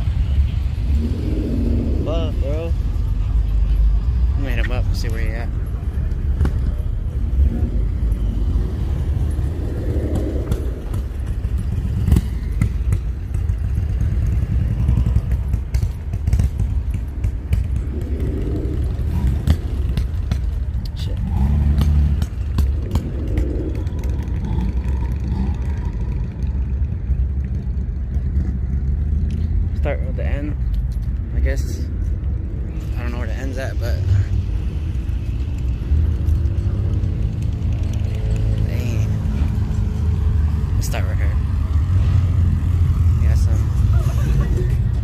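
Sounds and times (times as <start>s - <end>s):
car engines rumbling: 0.0s - 45.0s.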